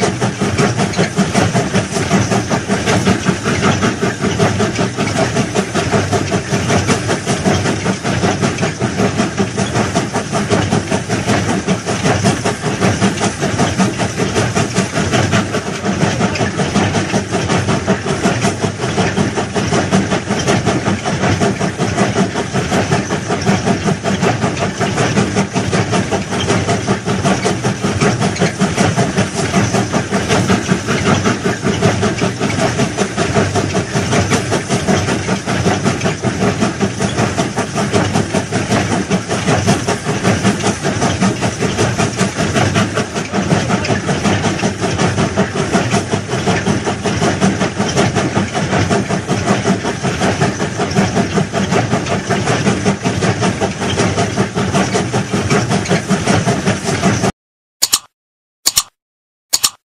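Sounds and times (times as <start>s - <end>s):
track-laying machine running: 0.0s - 58.1s, 58.7s - 58.9s, 59.5s - 59.8s.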